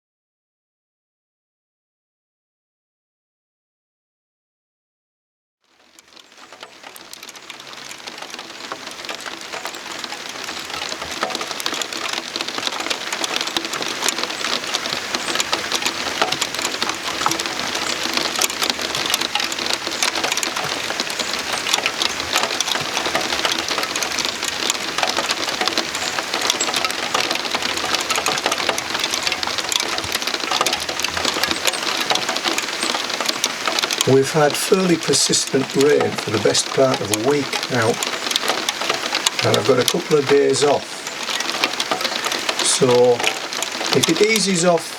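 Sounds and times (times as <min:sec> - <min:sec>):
heavy rain falling: 0:05.7 - 0:44.9.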